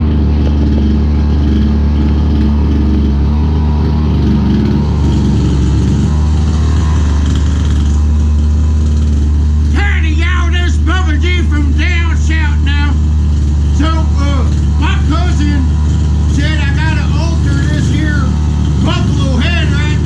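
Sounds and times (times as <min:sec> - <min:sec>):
chainsaw engine running: 0:00.0 - 0:20.0.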